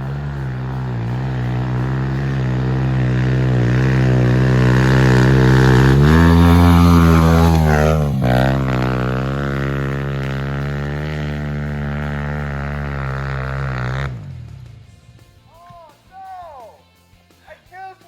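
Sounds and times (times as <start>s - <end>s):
motorbike engine revving: 0.0s - 15.3s.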